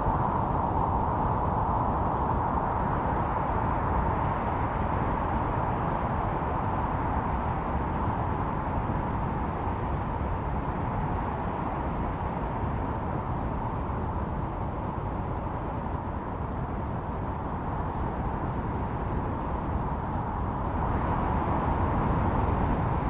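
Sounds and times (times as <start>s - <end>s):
snowstorm wind howling: 0.0s - 23.0s.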